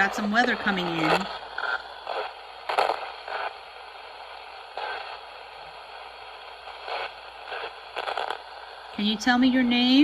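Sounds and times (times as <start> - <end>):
radio static hiss: 0.0 - 10.0
snatches of radio station sound: 0.0 - 10.0.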